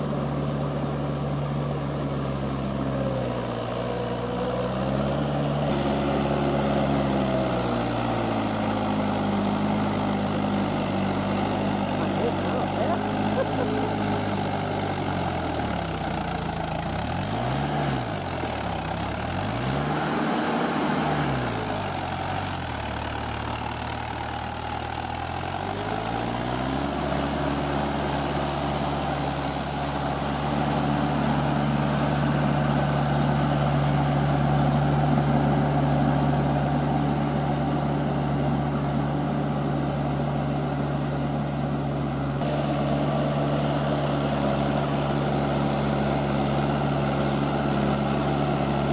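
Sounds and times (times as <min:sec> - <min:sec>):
tractor diesel engine revving: 0:00.0 - 0:48.9.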